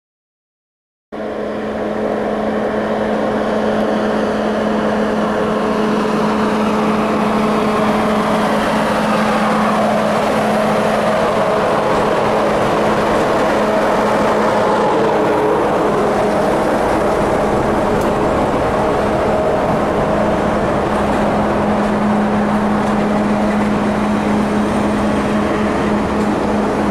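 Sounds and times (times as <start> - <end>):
diesel locomotive engine droning: 1.1 - 26.9.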